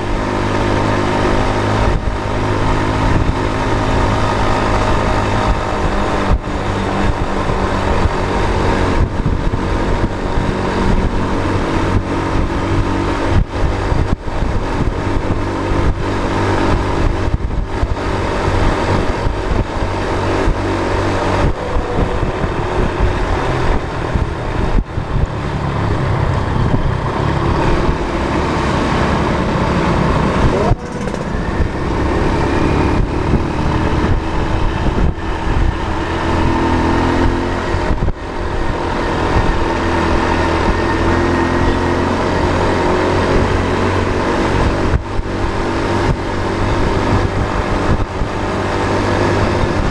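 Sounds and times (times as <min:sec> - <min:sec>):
tyre and wind noise: 0:00.0 - 0:49.9
vehicle engine running: 0:00.0 - 0:49.9.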